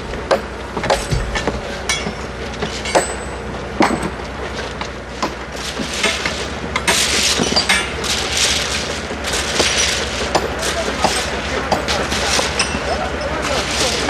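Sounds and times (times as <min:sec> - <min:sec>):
engine hum: 0:00.0 - 0:14.0
metal tools clinking: 0:00.9 - 0:04.1, 0:05.3 - 0:14.0.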